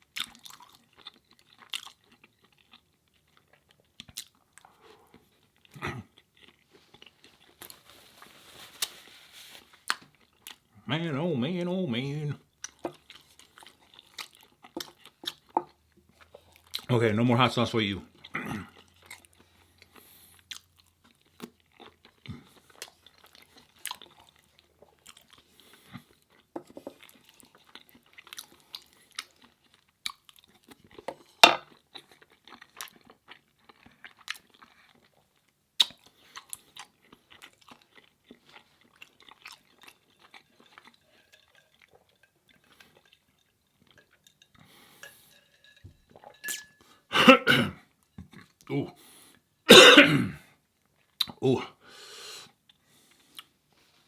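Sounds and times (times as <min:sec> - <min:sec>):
chewing food: 0:00.0 - 0:10.9, 0:12.4 - 0:16.9, 0:18.0 - 0:47.1, 0:47.9 - 0:49.5, 0:52.5 - 0:54.0.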